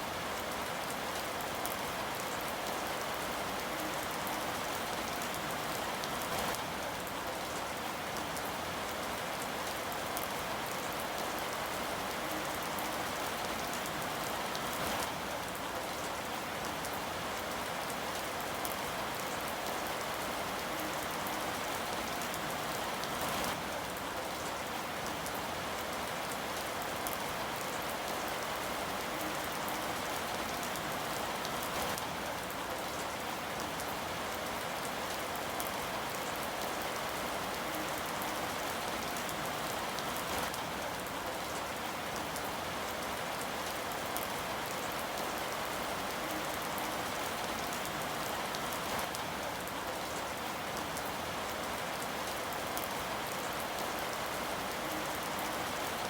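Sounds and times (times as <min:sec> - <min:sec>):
rain pattering: 0:00.1 - 0:56.0.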